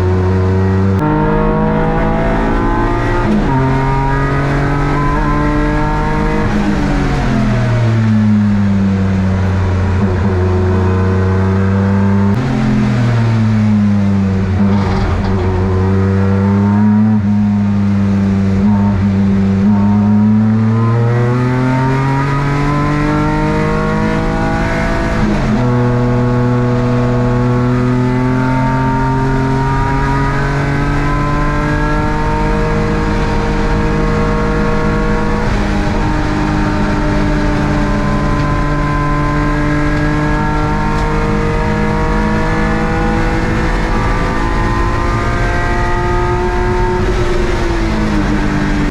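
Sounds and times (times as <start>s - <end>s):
race car engine revving: 0.0s - 48.9s.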